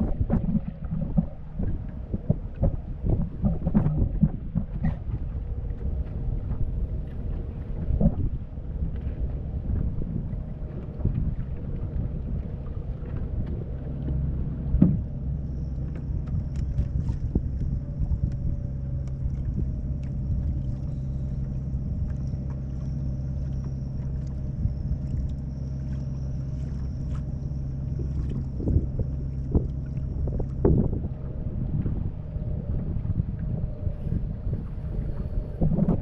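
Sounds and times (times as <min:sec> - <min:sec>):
boat motor humming: 0:00.0 - 0:36.0
high whine: 0:00.0 - 0:36.0
wind on microphone: 0:00.0 - 0:36.0.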